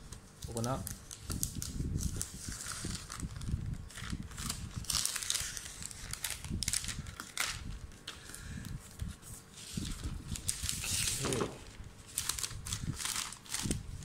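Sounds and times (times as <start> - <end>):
plastic sleeve crinkling: 0.1 - 8.1, 9.0 - 14.0.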